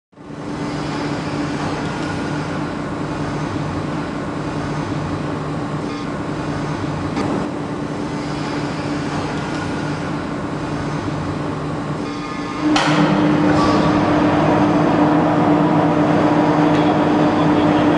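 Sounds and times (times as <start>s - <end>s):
industrial machinery humming: 0.1s - 17.9s.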